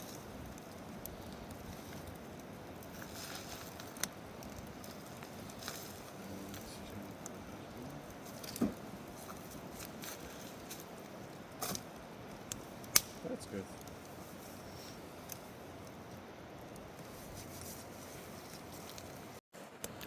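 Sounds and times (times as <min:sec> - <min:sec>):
campfire crackling and popping: 0:00.0 - 0:20.0
steady hiss: 0:00.0 - 0:20.0.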